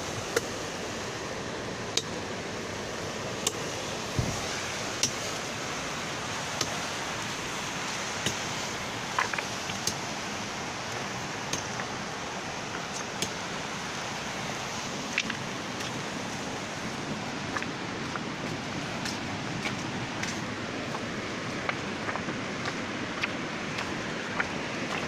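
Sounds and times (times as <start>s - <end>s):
river rushing in flood: 0.0s - 25.0s.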